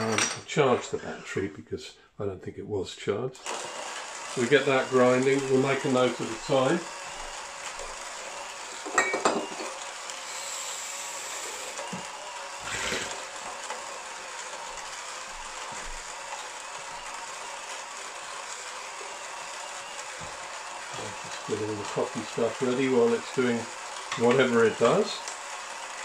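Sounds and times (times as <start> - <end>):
coffee grinder grinding beans: 0.0 - 1.5, 3.4 - 26.0.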